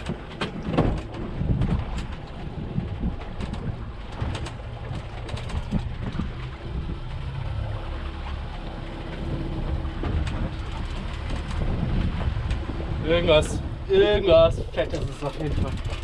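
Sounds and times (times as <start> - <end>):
outboard motor hum: 0.0 - 16.0
wind rumble: 0.0 - 16.0.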